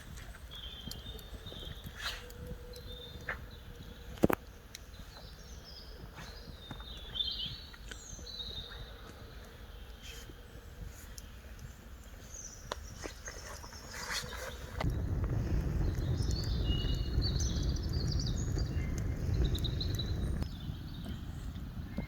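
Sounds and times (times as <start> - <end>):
wind rumble on microphone: 0.0 - 22.0
woodland birds singing: 0.0 - 22.0.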